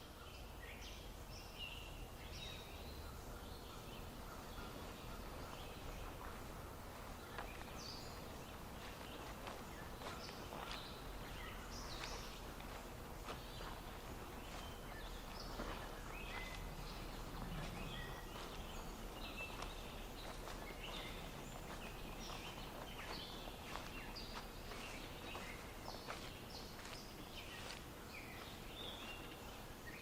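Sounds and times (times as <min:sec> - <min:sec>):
low steady outdoor hiss: 0:00.0 - 0:30.0
small birds chirping: 0:00.0 - 0:30.0.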